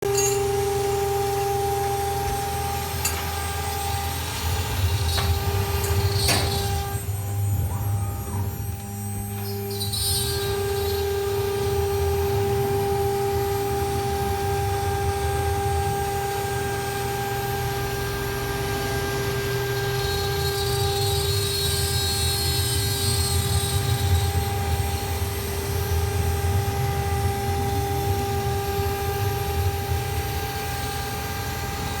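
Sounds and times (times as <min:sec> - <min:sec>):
cnc router spindle whine: 0:00.0 - 0:32.0.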